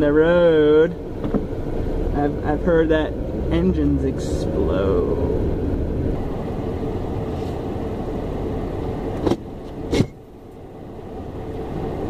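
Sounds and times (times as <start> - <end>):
car cabin driving noise: 0.0 - 12.0.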